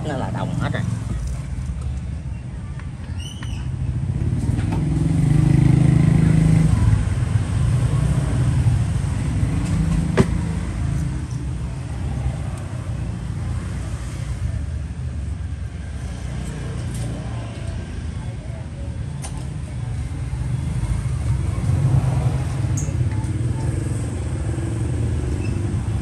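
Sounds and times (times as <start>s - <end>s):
traffic rumble: 0.0s - 26.0s
vehicle engine rumble: 0.0s - 26.0s.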